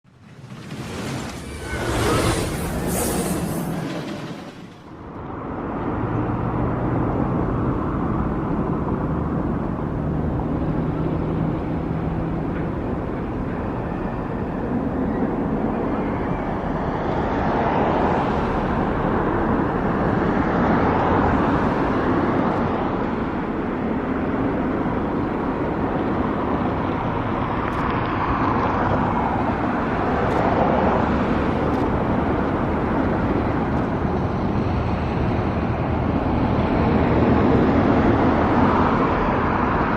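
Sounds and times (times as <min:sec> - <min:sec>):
road traffic noise: 0:00.0 - 0:39.9
vehicles passing: 0:00.1 - 0:39.9.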